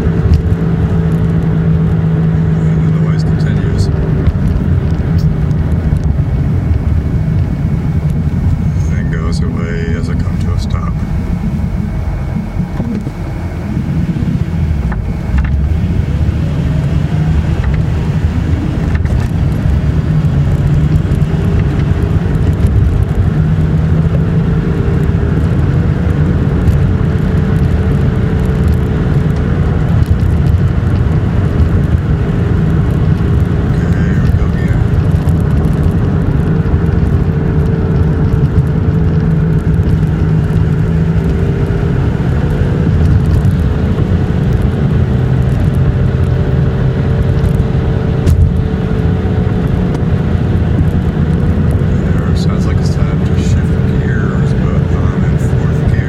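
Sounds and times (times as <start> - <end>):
car cabin low rumble: 0.0 - 56.0
droning hum: 0.0 - 56.0.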